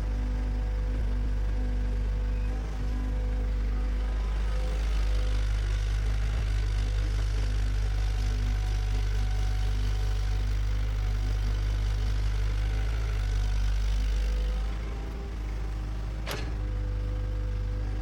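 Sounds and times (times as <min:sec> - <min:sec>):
bulldozer diesel engine rumbling: 0:00.0 - 0:18.0.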